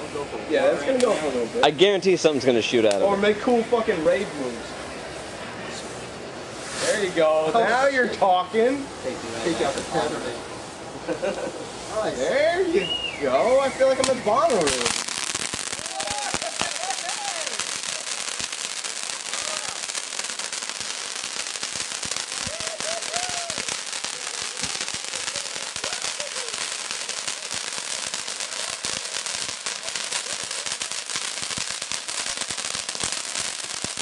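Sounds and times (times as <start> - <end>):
firework crackling: 0.0 - 34.0.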